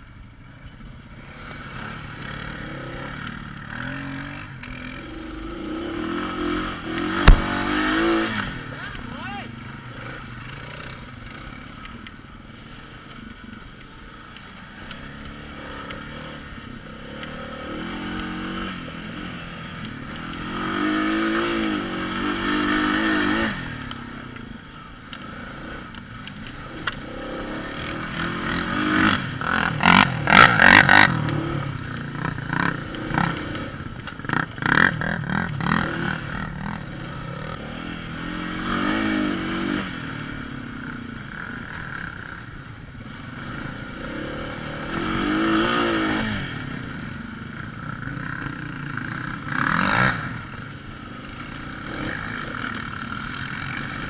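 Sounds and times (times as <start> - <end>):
quad bike engine revving: 1.1 - 54.0.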